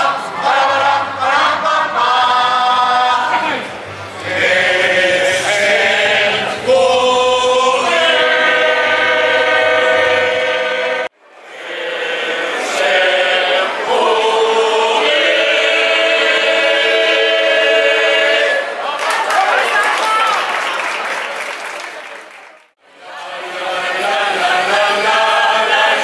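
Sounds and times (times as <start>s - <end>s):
choir singing held chords: 0.0s - 19.0s, 22.9s - 26.0s.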